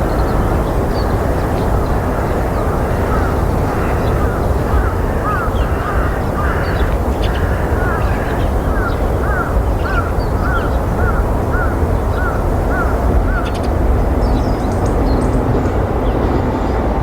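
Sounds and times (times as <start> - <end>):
bird calling: 0.0 - 15.6.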